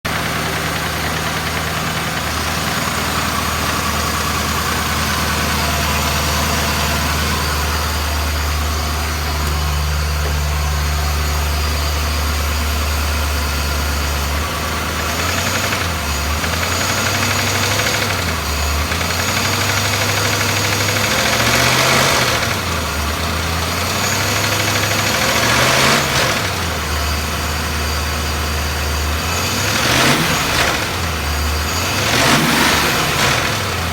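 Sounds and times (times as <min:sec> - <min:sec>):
car engine idling and revving: 0:00.0 - 0:33.9
engine mechanical noise: 0:00.1 - 0:33.9.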